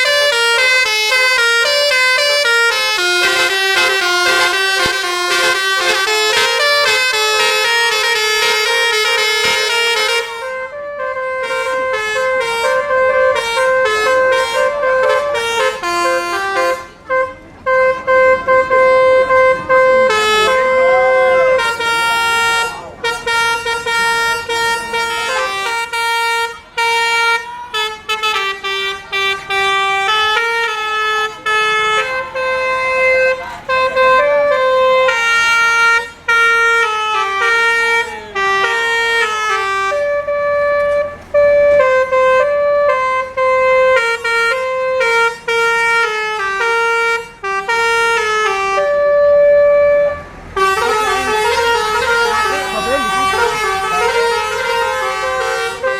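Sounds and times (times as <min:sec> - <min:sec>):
bus horn playing melody: 0:00.0 - 0:55.9.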